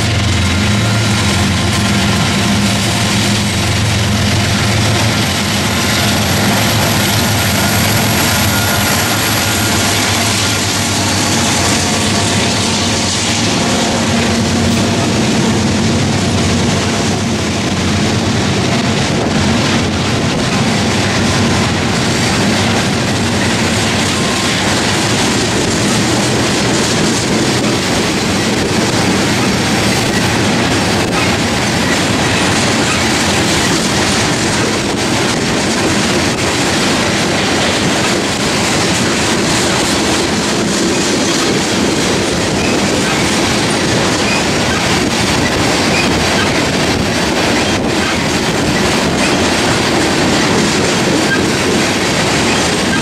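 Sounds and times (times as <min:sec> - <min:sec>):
diesel locomotives passing: 0:00.0 - 0:53.0
freight cars rumbling and clacking: 0:00.0 - 0:53.0.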